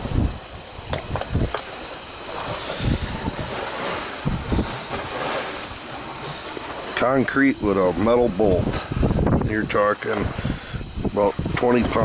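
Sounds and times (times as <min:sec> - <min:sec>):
wind noise on microphone: 0:00.0 - 0:01.6, 0:02.2 - 0:06.0, 0:07.6 - 0:12.0.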